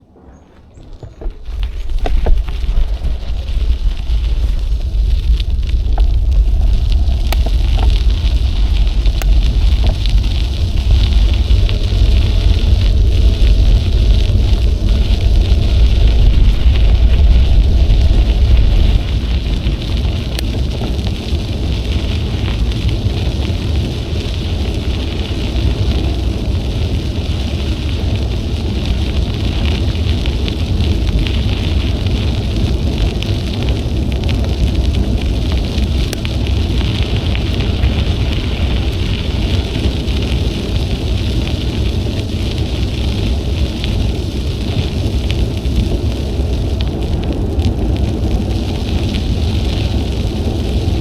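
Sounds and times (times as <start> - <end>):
bicycle tyres rolling on trail: 0.0 - 51.0
wind rushing over microphone: 0.0 - 51.0.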